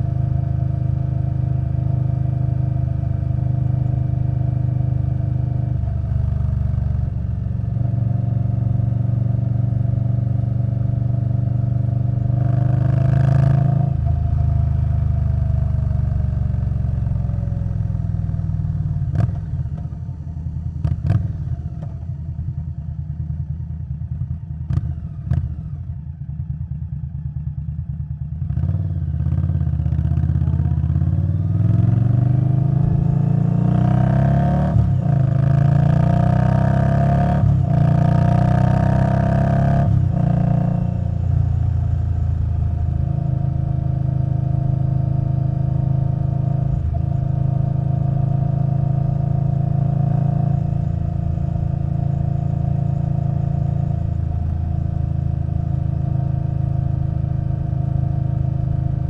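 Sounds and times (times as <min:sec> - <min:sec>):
motorcycle engine accelerating: 0:00.0 - 0:22.6, 0:23.5 - 0:59.0.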